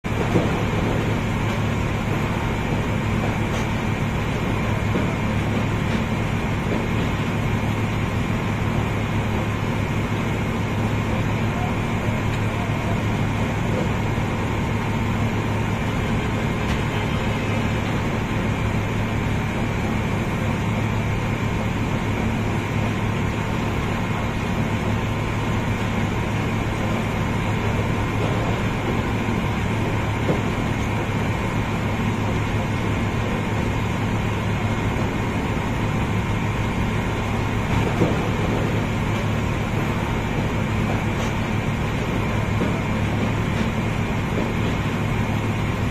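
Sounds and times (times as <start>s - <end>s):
machinery drone and rumble: 0.0s - 45.9s.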